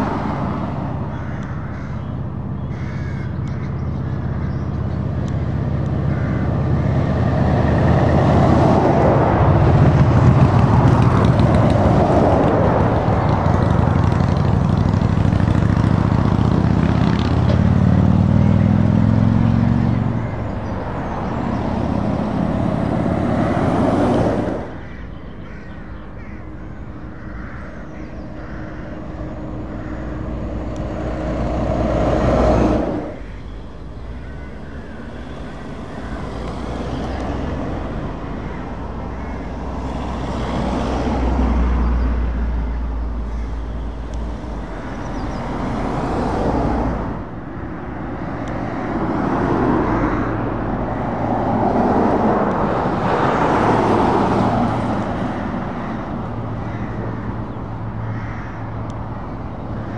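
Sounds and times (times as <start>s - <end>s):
heavy trucks driving past: 0.0s - 59.9s.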